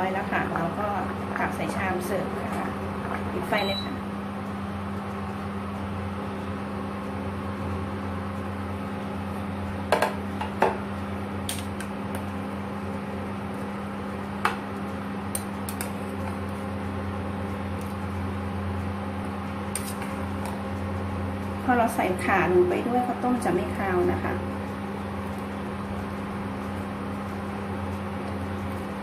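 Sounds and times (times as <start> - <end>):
low electric hum: 0.0 - 29.0.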